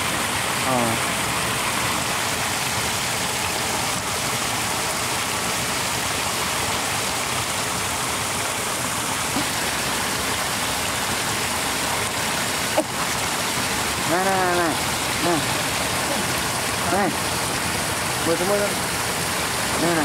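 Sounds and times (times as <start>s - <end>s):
water streams pouring into pool: 0.0s - 20.0s.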